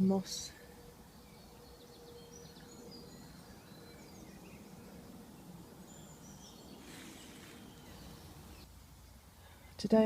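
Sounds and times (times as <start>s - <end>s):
low background noise: 0.0s - 10.0s
small birds chirping: 0.0s - 10.0s.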